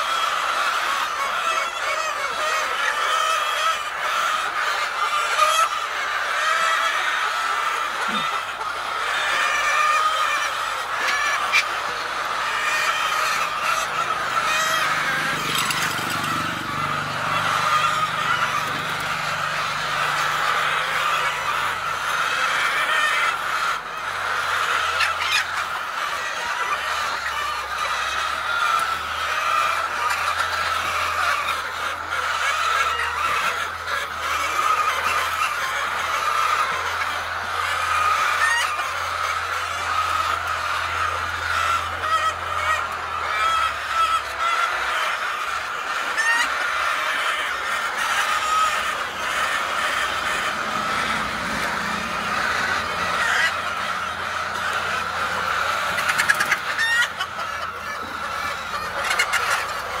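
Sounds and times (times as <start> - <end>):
birds chattering: 0.0 - 60.0.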